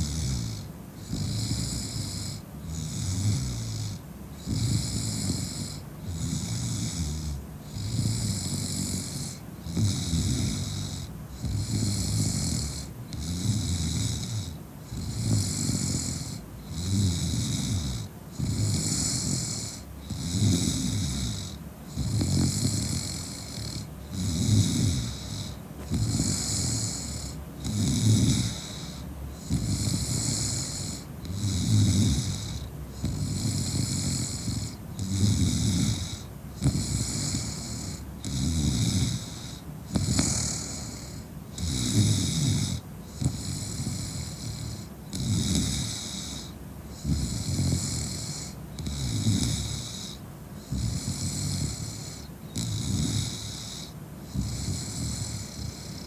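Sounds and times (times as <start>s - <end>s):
woman snoring: 0.0s - 56.0s.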